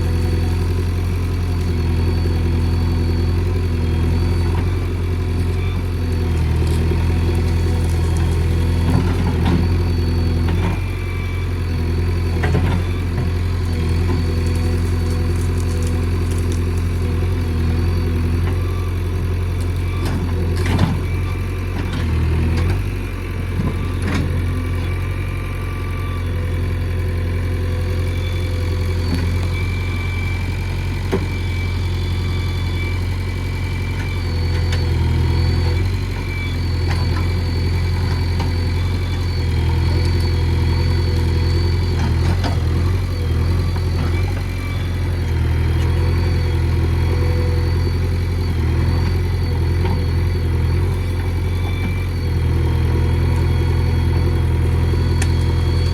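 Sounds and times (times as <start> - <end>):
backhoe diesel engine running: 0.0 - 55.9.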